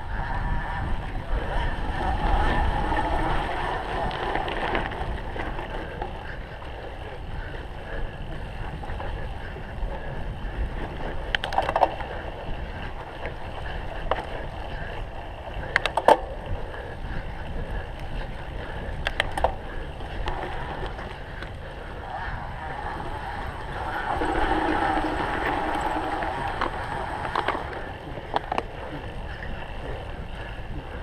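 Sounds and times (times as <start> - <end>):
bike tyre and frame rumble: 0.0 - 31.0
wind on microphone: 0.0 - 31.0.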